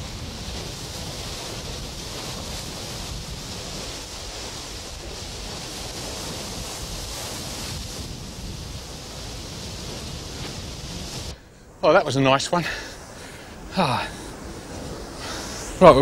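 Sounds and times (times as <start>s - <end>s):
surf washing against rocks: 0.0s - 16.0s.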